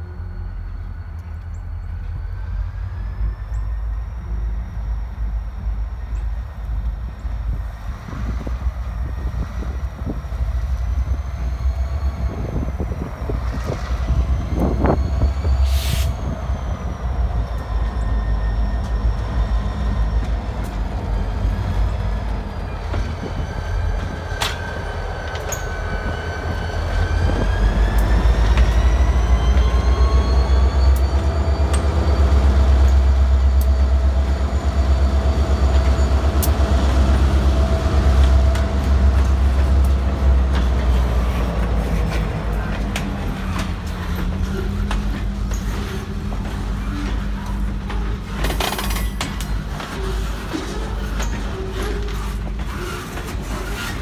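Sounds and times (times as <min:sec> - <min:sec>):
diesel locomotive engine rumble: 0:00.0 - 0:54.0
train wheels rolling on rail: 0:00.0 - 0:54.0.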